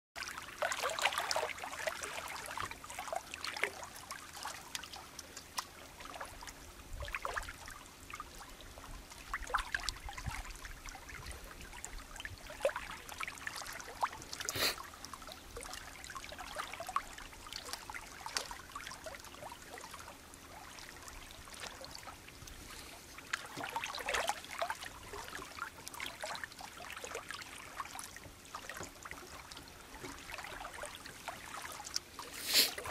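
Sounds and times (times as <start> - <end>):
small waves lapping: 0.2 - 32.9
trickling splashes: 0.2 - 32.9.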